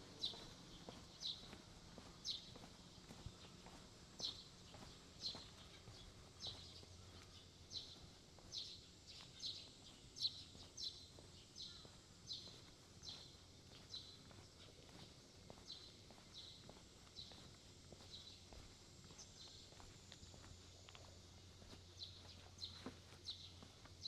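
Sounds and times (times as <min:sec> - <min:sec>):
quiet footsteps scuffing: 0:00.0 - 0:24.0.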